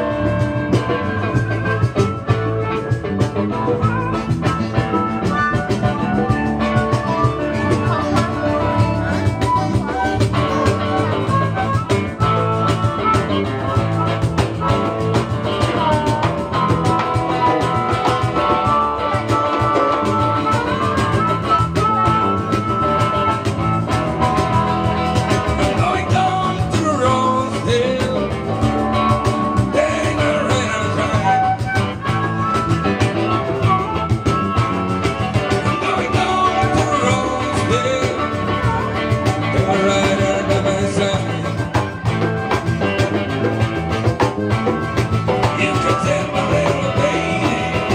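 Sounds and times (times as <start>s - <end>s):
harmonica bending notes: 0.0s - 47.9s
live blues-rock band: 0.0s - 47.9s.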